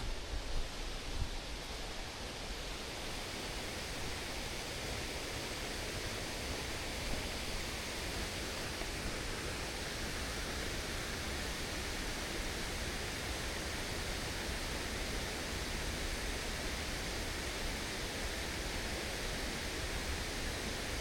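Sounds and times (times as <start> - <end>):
rushing stream and waterfall: 0.0 - 21.0.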